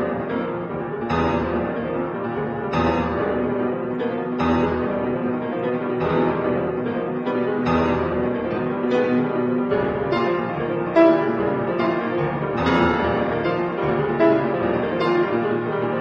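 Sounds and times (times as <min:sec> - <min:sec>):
solo piano piece: 0:00.0 - 0:16.0.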